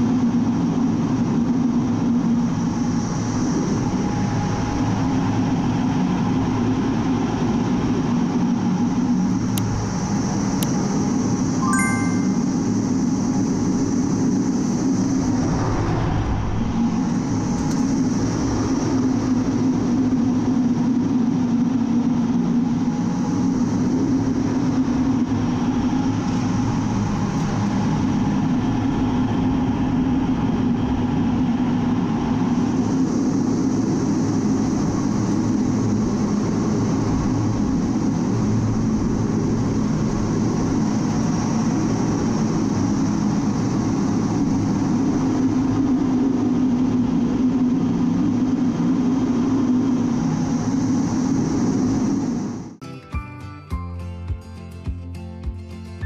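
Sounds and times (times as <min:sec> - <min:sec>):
jet engine roar in cockpit: 0:00.0 - 0:52.8
high jet whine: 0:00.3 - 0:52.8.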